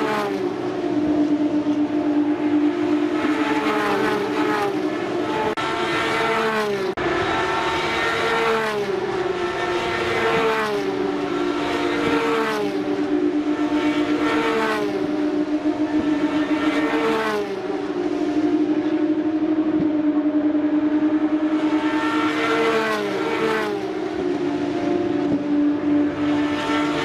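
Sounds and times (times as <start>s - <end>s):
race car engines at high revs: 0.0s - 27.0s
steady engine tone: 0.0s - 27.0s.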